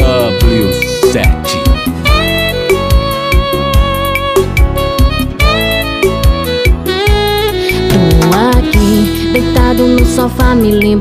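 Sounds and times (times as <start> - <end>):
steady drum beat: 0.0 - 10.7
sustained melody line: 0.0 - 11.0.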